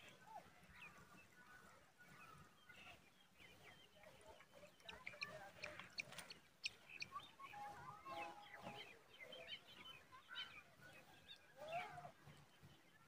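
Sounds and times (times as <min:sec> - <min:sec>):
faint bird chirps and whistles: 0:00.2 - 0:13.0.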